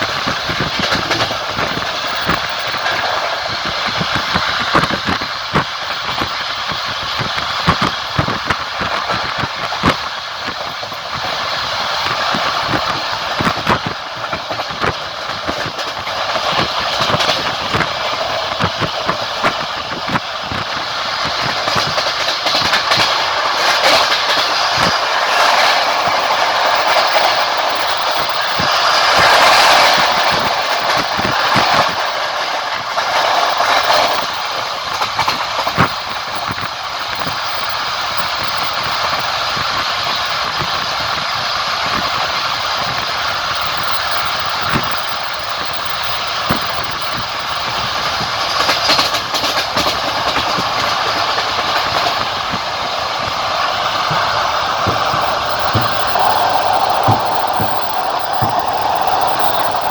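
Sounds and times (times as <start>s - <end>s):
rushing train running noise: 0.0s - 59.9s
train wheels clacking over joints: 0.0s - 59.9s.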